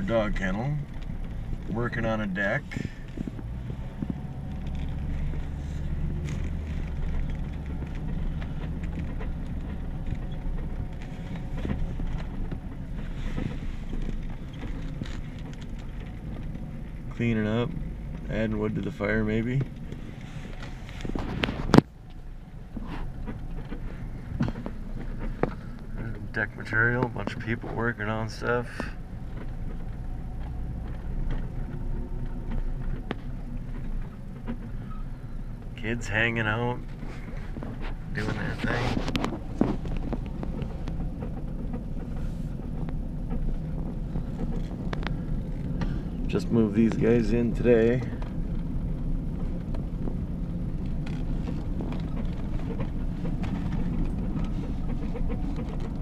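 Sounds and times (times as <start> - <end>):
truck engine rumble: 0.0 - 56.0
tyres clicking and popping on dirt: 0.0 - 56.0.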